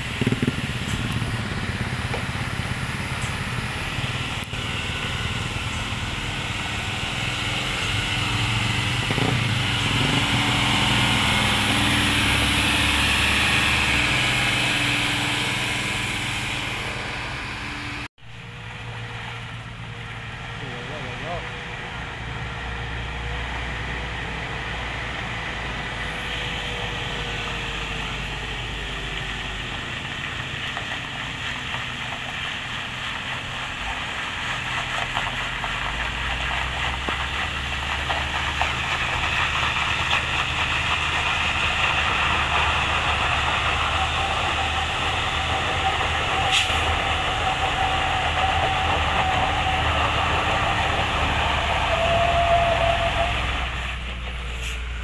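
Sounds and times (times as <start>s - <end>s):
diesel truck engine climbing uphill: 0.0s - 55.0s.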